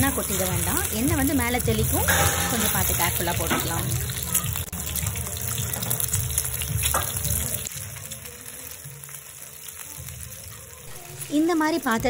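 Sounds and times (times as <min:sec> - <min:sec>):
eggs sizzling in oil: 0:00.0 - 0:12.0.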